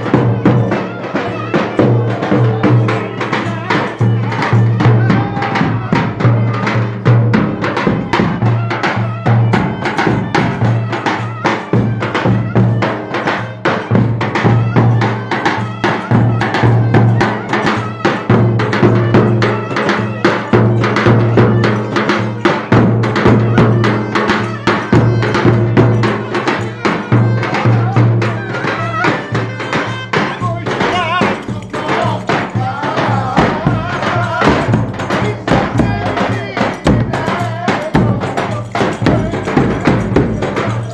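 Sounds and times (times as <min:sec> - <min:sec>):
folk dance music: 0:00.0 - 0:40.9
percussion steady beat: 0:00.0 - 0:40.9.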